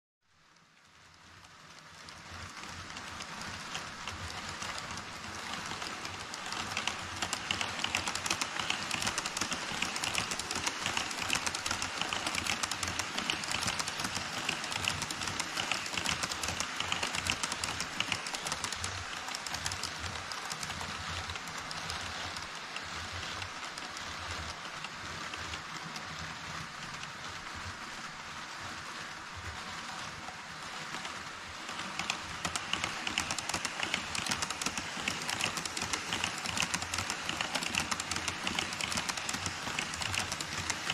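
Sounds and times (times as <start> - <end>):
model train wheels clattering: 0.5 - 40.9.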